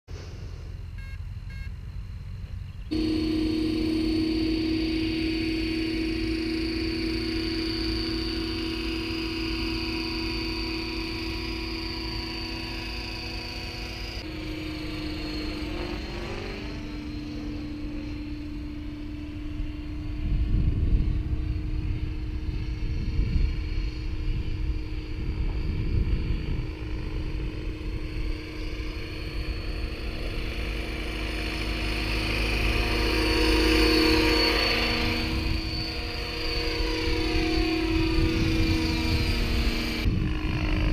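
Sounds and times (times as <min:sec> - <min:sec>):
low rumbling noise: 0:00.1 - 0:40.9
rc helicopter motor whine: 0:00.1 - 0:40.9.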